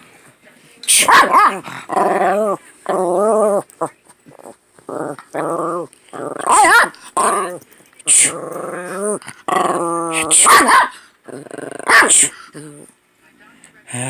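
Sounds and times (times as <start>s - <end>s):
small dog growling and barking: 0.9s - 13.0s.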